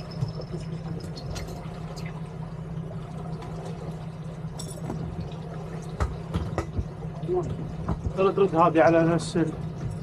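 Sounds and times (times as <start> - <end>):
water sloshing against hull: 0.0 - 10.0.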